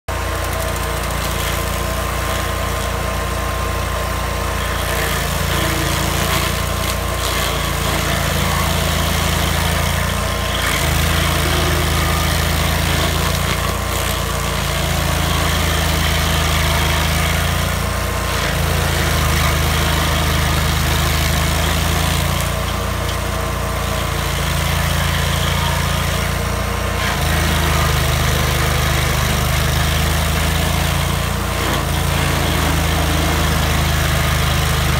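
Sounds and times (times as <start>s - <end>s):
stump grinder engine running: 0.0s - 34.9s
cutter wheel grinding stump: 0.1s - 34.9s.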